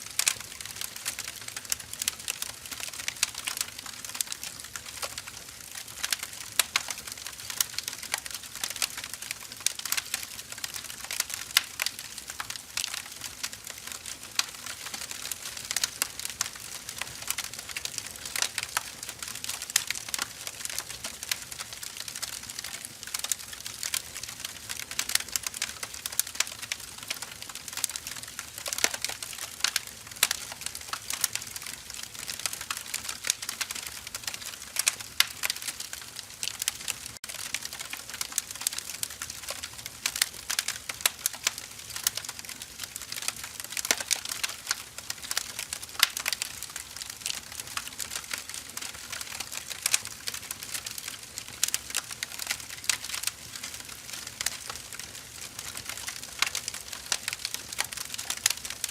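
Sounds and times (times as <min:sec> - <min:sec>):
firewood crackling and popping: 0:00.0 - 0:58.9.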